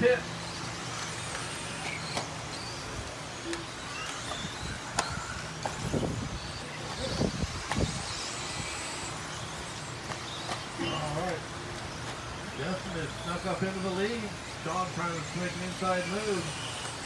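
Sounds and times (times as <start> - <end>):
small motor whine: 0.0 - 17.0.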